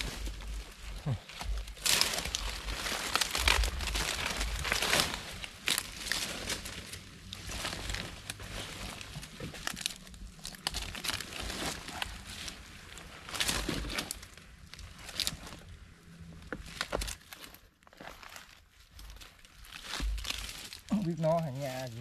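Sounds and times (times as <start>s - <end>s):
leaves rustling and crackling: 0.0s - 22.0s.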